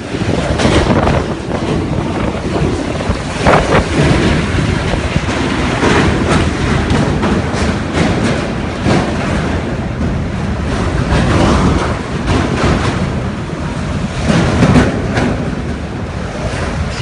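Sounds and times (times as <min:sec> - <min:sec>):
strong wind into microphone: 0:00.0 - 0:17.0.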